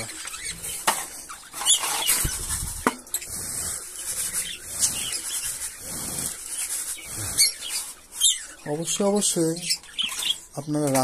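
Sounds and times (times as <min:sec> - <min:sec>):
budgerigars chirping and chattering: 0:00.0 - 0:11.0.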